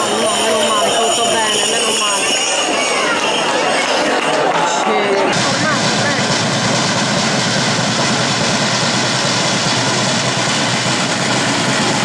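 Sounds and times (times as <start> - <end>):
crowd cheering: 0.0 - 12.0.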